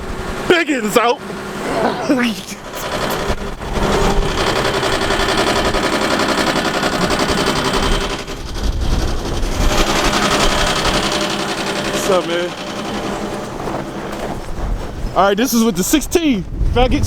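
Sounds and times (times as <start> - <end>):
vehicle engine running: 0.0 - 16.3.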